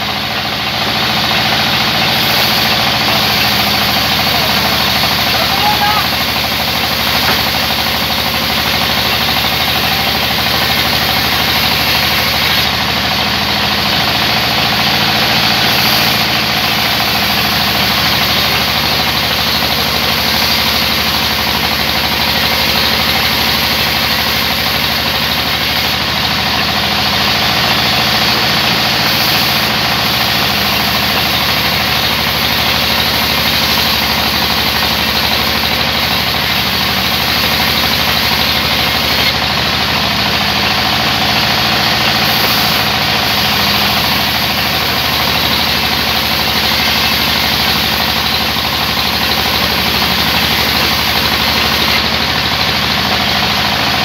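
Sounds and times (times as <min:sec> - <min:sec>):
band saw motor hum: 0:00.0 - 0:54.0
saw blade cutting wood: 0:00.0 - 0:54.0.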